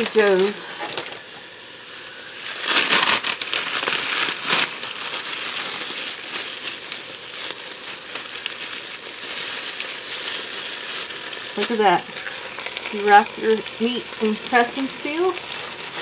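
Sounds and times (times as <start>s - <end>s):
onions and peppers sizzling: 0.0s - 16.0s
plastic cling wrap crinkling: 0.0s - 16.0s.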